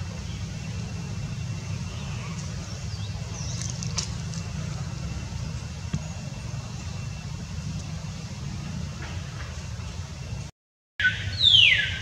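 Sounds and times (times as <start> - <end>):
steady low rumble: 0.0 - 10.5.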